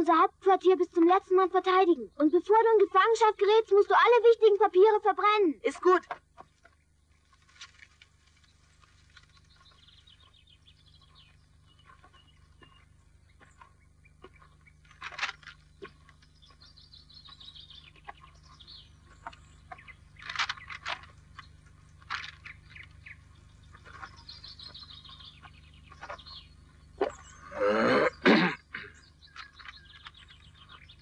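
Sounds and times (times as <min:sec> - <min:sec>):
birds chirping trills: 0:00.0 - 0:31.0
bird calling: 0:05.8 - 0:31.0.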